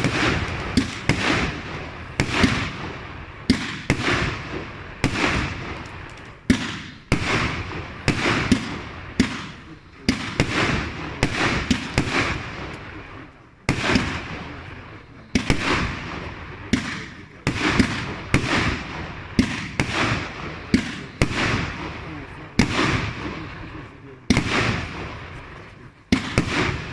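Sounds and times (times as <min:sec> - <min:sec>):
firework bangs: 0:00.0 - 0:26.9.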